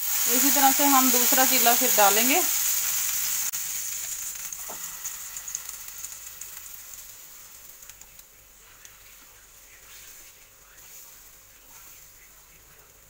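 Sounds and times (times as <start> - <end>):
batter sizzling in a pan: 0.0 - 13.0.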